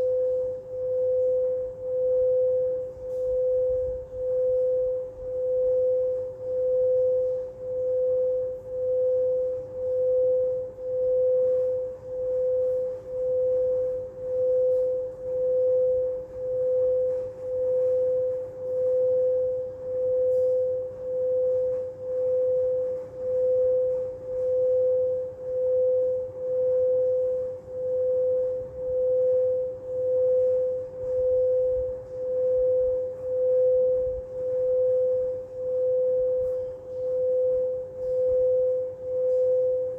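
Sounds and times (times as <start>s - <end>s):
singing bowl tone: 0.0s - 39.9s.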